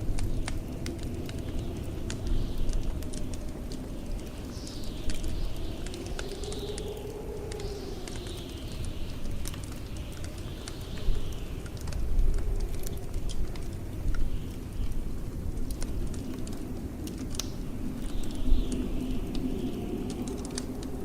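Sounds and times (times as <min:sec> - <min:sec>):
blizzard wind howling: 0:00.0 - 0:21.0
wood fire crackling: 0:00.0 - 0:21.0.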